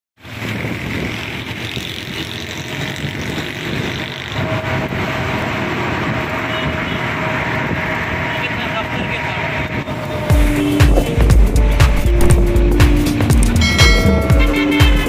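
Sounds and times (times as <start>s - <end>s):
auto-rickshaw engine and road noise: 0.2s - 15.0s
passing traffic: 0.2s - 15.0s.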